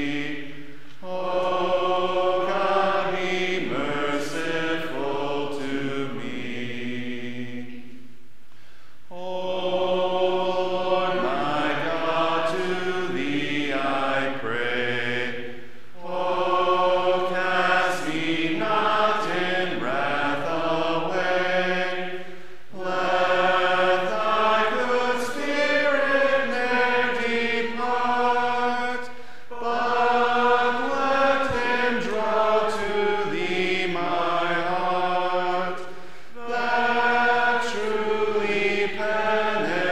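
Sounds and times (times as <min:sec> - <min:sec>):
congregation singing a hymn: 0:00.0 - 0:08.2, 0:09.1 - 0:39.9.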